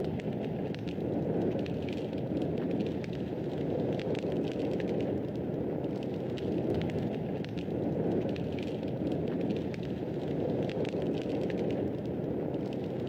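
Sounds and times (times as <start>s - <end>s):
fire crackling in fireplace: 0.0s - 13.0s.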